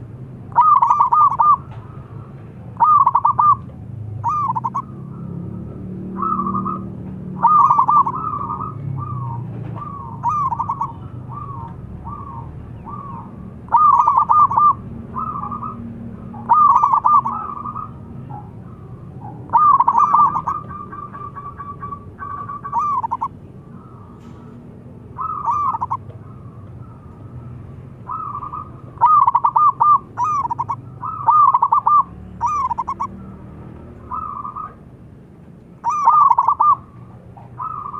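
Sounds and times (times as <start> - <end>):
dove cooing: 0.5 - 34.9, 35.8 - 37.9.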